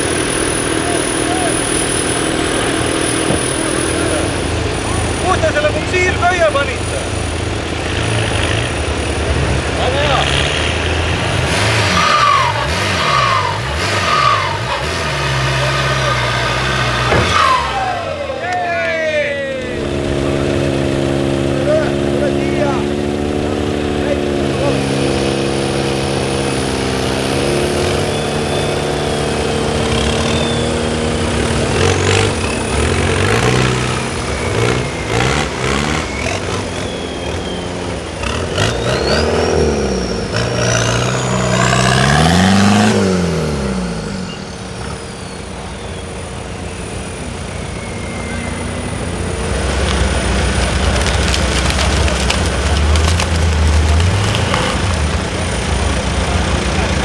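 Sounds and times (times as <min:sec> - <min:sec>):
off-road engines revving: 0:00.0 - 0:57.0.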